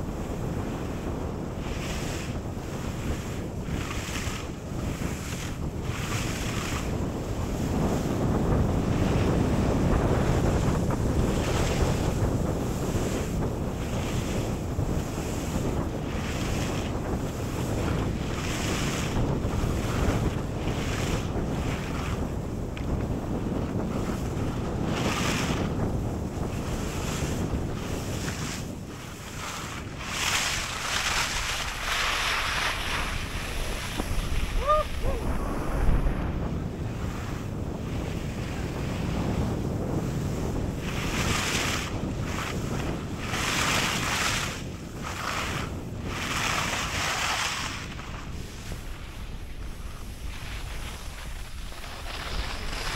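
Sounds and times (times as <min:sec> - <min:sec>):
skis scraping on snow: 0:00.0 - 0:52.9
wind buffeting microphone: 0:00.0 - 0:52.9.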